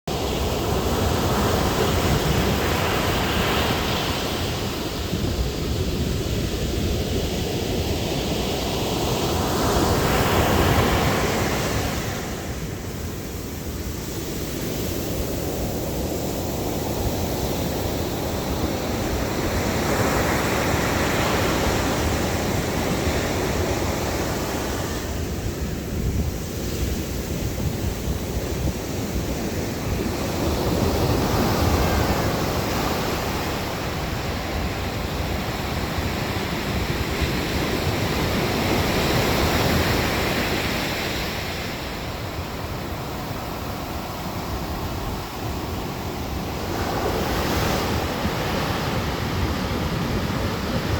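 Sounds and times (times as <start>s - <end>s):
ocean waves breaking on beach: 0.1s - 50.9s.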